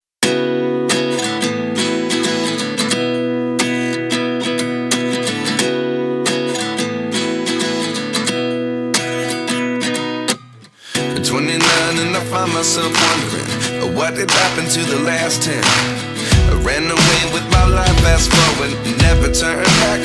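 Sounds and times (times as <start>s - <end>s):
strummed acoustic guitar: 0.2s - 20.0s.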